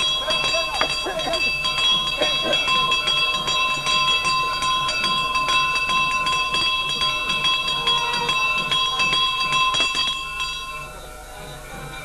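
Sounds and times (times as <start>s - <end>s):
hand bell ringing rapidly: 0.0s - 12.0s.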